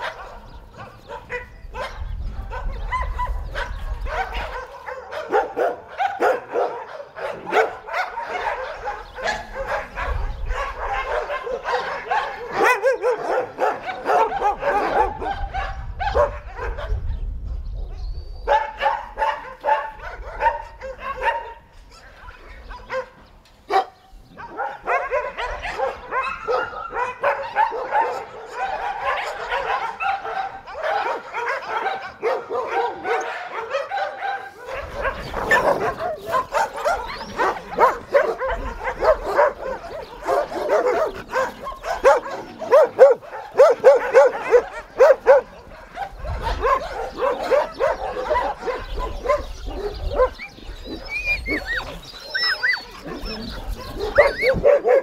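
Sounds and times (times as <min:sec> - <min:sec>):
dogs barking and yipping: 0:00.0 - 0:55.0.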